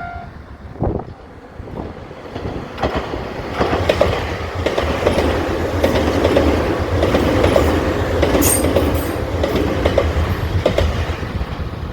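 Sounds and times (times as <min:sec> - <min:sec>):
train rumbling past: 0:00.0 - 0:11.9
wheels clicking over rail joints: 0:01.0 - 0:11.9.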